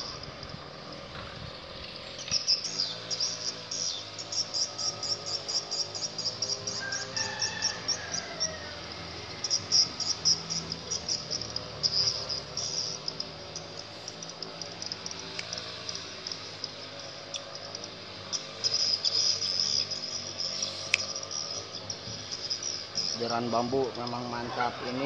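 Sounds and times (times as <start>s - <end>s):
insects chirping: 0.0s - 25.0s
bird calling: 2.0s - 25.0s.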